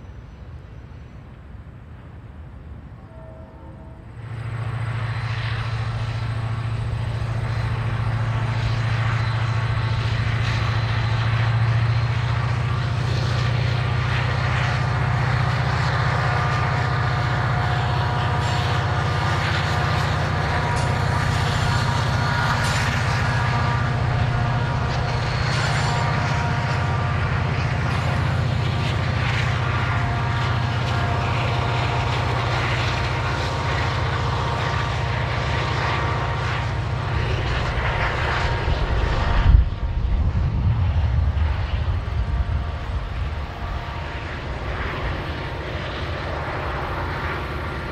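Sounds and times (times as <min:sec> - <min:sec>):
locomotive engine drone: 0:00.0 - 0:47.9.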